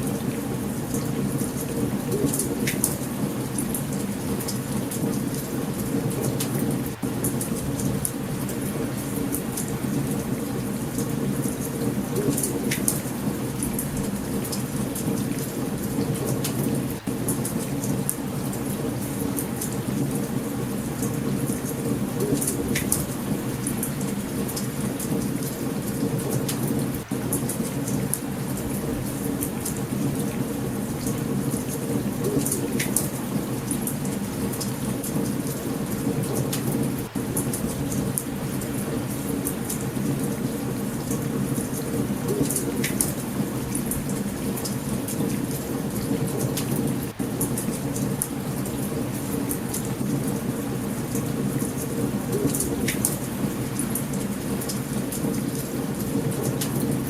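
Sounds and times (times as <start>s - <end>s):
heavy rain: 0.0s - 57.0s
low rumble of thunder: 0.0s - 57.0s.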